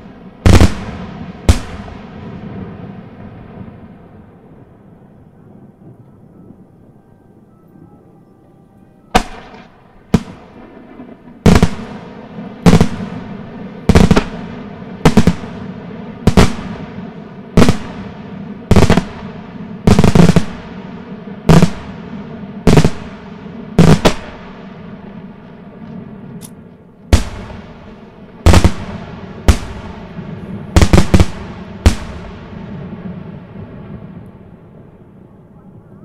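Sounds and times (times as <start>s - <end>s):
firework bangs with echo: 0.0s - 4.5s, 9.1s - 35.0s.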